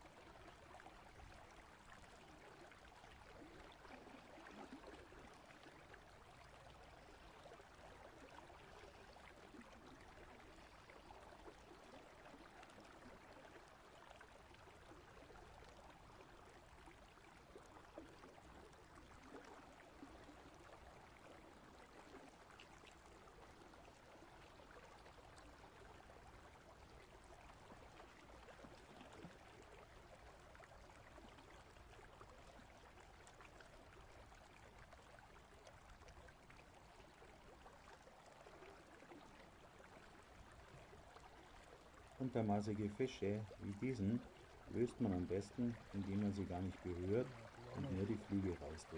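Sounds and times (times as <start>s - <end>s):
babble of flowing stream: 0.0s - 48.9s.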